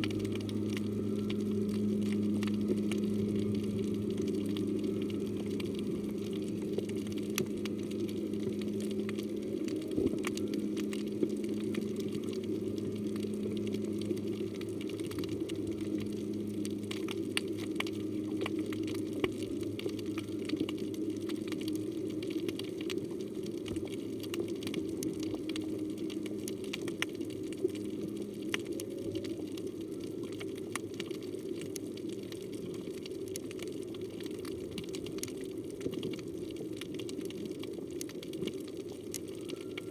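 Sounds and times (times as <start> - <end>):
low underwater rush: 0.0 - 32.0
crackle of scattered clicks: 0.0 - 39.9
faint low hum: 0.0 - 39.9.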